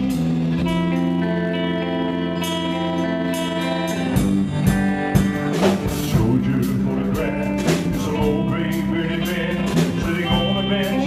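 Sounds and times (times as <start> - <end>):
country band playing: 0.0 - 11.0.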